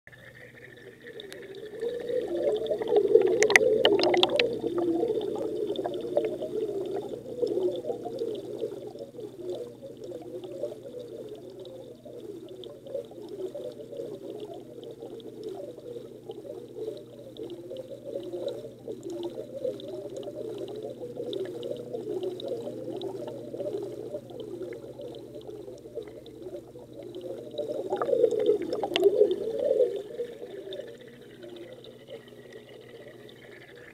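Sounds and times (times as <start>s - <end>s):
muffled aquarium water bubbling: 0.1s - 33.9s.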